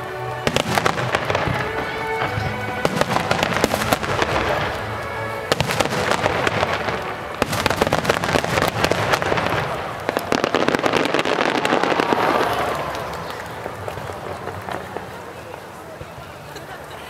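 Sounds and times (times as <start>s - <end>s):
music: 0.0s - 17.0s
rapid firework crackling: 0.4s - 16.6s
firework shells bursting: 0.5s - 15.1s.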